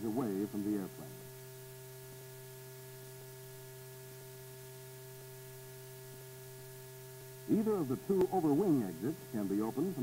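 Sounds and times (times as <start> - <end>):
electrical hum: 0.0 - 10.0
recording noise hiss: 0.0 - 10.0.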